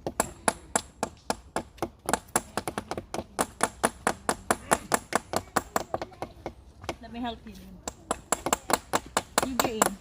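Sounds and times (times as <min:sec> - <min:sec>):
stone tapping on tree trunk: 0:00.0 - 0:10.0.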